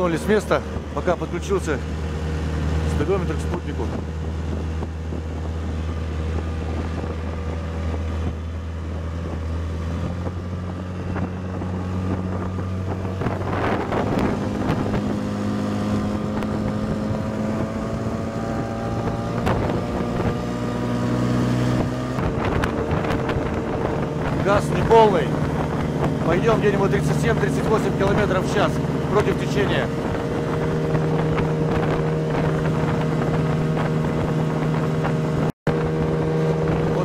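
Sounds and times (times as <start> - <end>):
outboard motor running: 0.0 - 37.0
wind buffeting microphone: 0.0 - 37.0.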